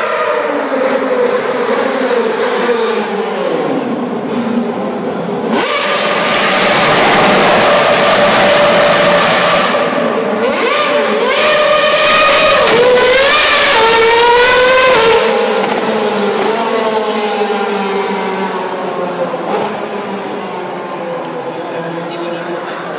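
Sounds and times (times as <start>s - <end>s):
racing car engine revving: 0.0s - 22.9s.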